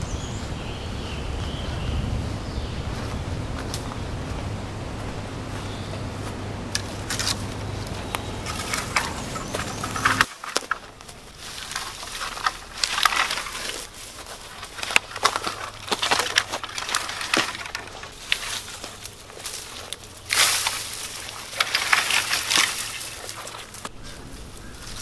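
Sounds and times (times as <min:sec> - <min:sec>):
low hum: 0:00.0 - 0:25.0
dry sticks snapping: 0:02.9 - 0:04.0, 0:05.0 - 0:25.0.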